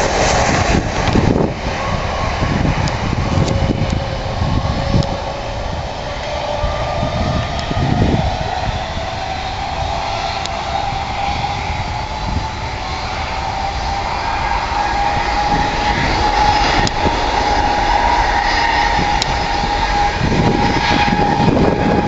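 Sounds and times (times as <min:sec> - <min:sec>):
jet engines whining: 0:00.0 - 0:22.0
low gusty rumble: 0:00.0 - 0:22.0.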